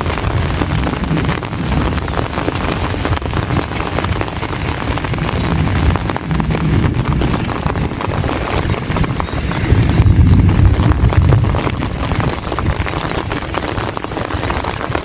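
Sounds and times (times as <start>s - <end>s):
heavy rain falling: 0.0s - 15.0s
wind on microphone: 0.0s - 15.0s.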